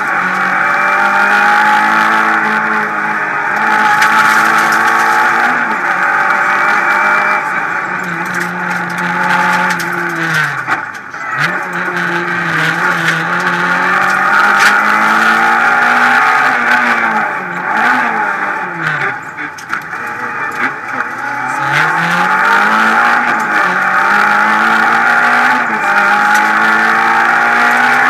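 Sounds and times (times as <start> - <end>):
car engine at high revs: 0.0 - 28.0
sharp clicks and rattles: 3.5 - 5.6, 6.2 - 16.9, 17.8 - 28.0.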